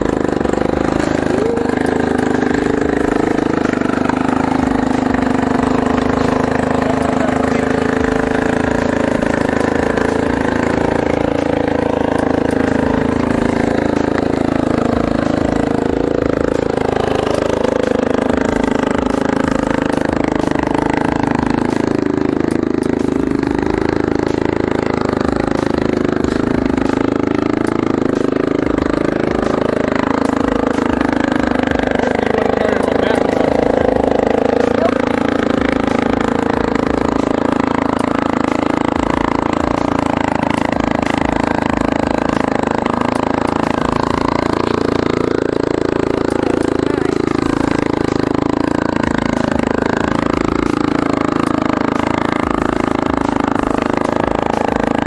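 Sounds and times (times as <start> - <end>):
small engine revving: 0.0 - 55.0.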